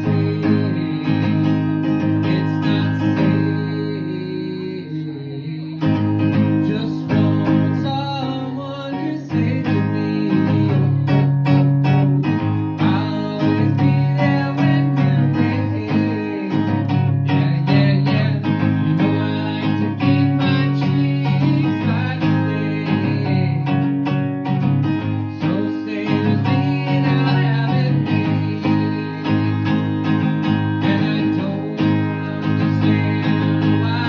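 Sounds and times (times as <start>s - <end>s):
strummed acoustic guitar: 0.0s - 34.0s.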